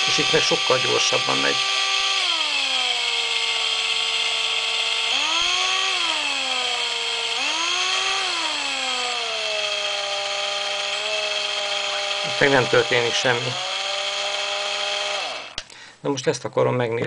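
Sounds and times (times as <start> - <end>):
cordless drill motor whining: 0.0 - 15.8.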